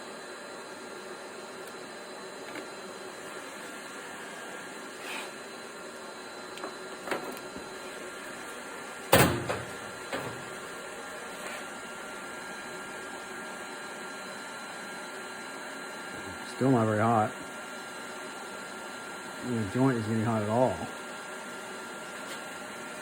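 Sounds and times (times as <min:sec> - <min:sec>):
welder fan hum with whine: 0:00.0 - 0:23.0.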